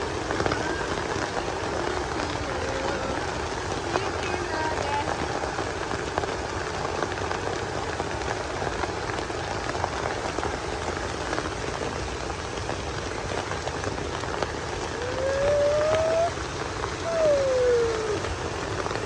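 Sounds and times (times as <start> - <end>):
raindrops ticking: 0.0 - 19.0
steady rain falling: 0.0 - 19.0.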